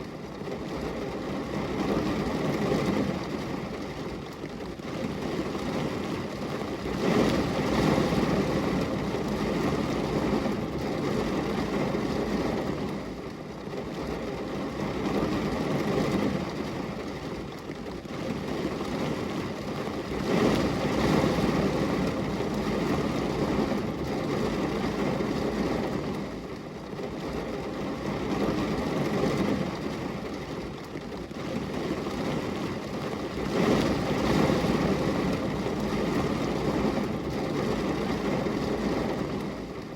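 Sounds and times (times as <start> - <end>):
rain on a glass window: 0.0 - 39.9.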